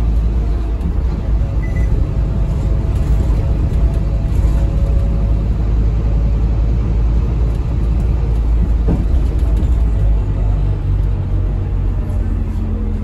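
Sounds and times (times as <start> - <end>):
diesel bus engine rumble: 0.0 - 13.0
road and body noise: 0.0 - 13.0.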